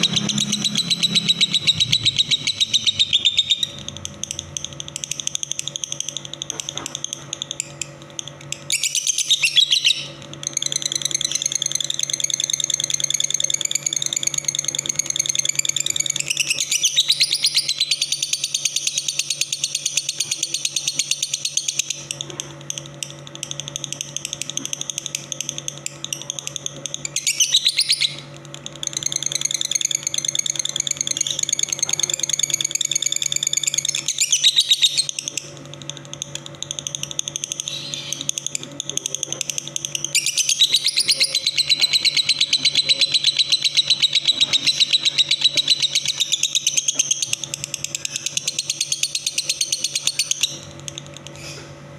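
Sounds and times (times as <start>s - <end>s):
songbird chattering trills: 0.0s - 7.9s, 8.6s - 23.0s, 23.6s - 51.6s
low electrical hum: 0.0s - 51.9s.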